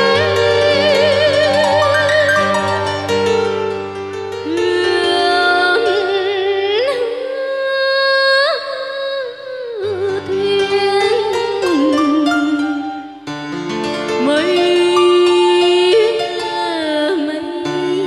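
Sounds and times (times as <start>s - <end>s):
woman singing with vibrato: 0.0s - 3.2s, 4.4s - 13.1s, 14.2s - 18.0s.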